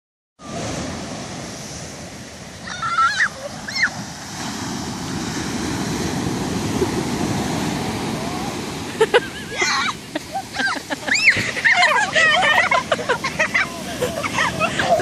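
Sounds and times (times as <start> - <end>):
surf breaking on beach: 0.4 - 15.0.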